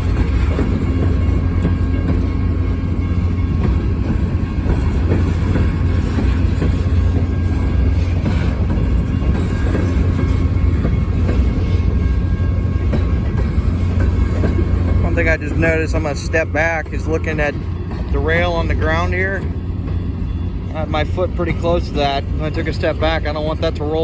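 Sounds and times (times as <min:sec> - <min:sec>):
low rumble of train cars: 0:00.0 - 0:24.0
train wheels clicking over rail joints: 0:00.0 - 0:24.0.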